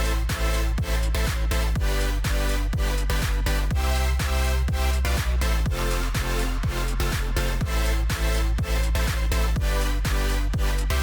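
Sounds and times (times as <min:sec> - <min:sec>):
electronic dance music: 0:00.0 - 0:11.0
heavy bass line: 0:00.0 - 0:11.0
kick drum: 0:00.0 - 0:11.0.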